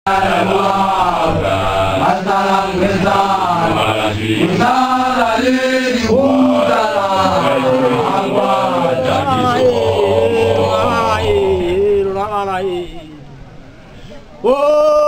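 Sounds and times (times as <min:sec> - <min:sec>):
men chanting together: 0:00.1 - 0:12.9.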